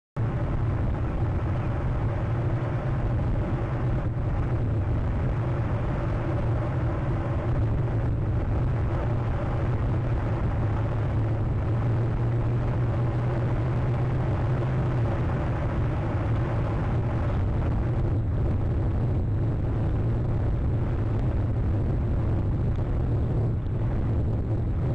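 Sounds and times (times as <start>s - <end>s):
low rumbling background noise: 0.2s - 24.9s.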